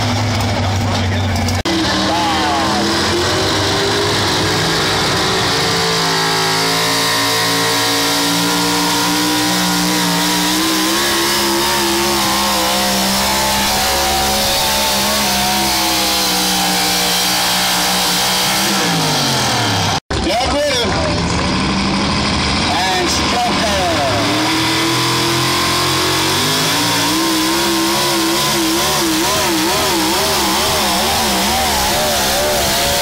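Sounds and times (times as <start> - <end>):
vehicle engine revving loud: 0.0 - 20.0, 20.9 - 33.0.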